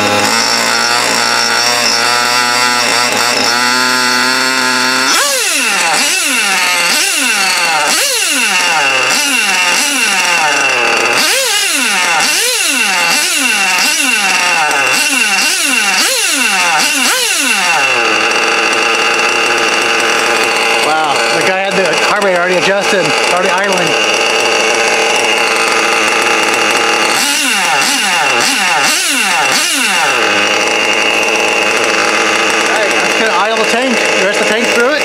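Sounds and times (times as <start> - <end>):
model car engine revving: 0.0 - 35.0.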